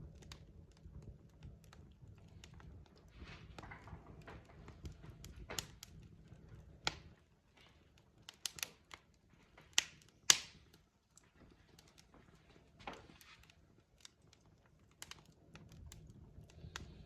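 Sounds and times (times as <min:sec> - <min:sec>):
wood fire crackling: 0:00.0 - 0:17.0
sharp pops and snaps: 0:00.1 - 0:17.0.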